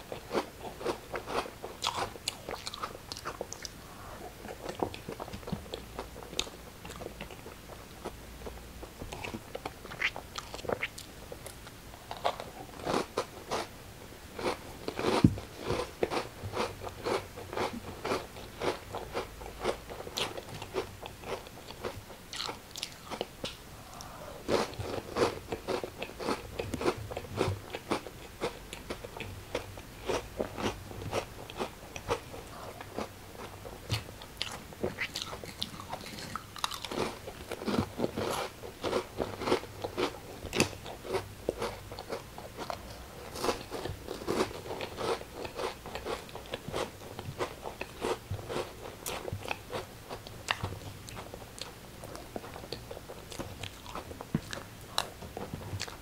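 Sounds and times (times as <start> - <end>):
chewing crunchy crackers: 0.0 - 8.2, 8.8 - 13.7, 14.4 - 56.0.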